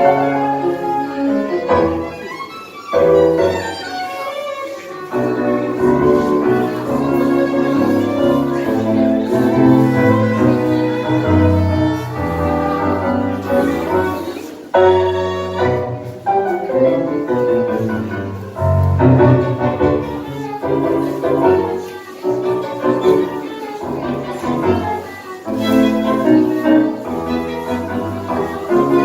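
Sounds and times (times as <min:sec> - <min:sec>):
tango music ensemble: 0:00.0 - 0:29.0.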